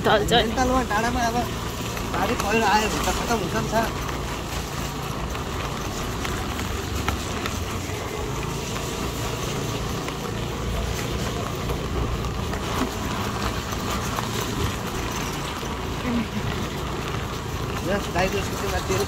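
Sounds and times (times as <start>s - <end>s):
motorbike engine running: 0.0s - 19.0s
road and wind noise: 0.0s - 19.0s.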